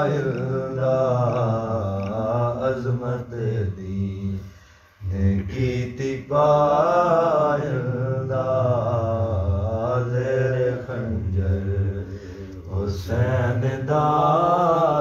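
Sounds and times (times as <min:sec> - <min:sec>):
man chanting unaccompanied: 0:00.0 - 0:04.4, 0:05.0 - 0:15.0.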